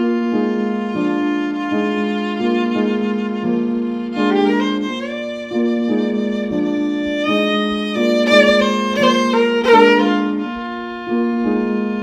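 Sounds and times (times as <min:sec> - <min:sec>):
amplified fiddle melody: 0:00.0 - 0:12.0.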